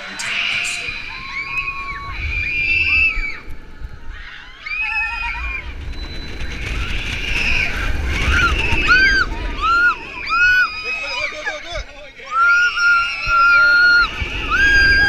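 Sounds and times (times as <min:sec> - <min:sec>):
low rumble of wind and ride: 0:00.0 - 0:15.0
riders screaming: 0:00.0 - 0:15.0.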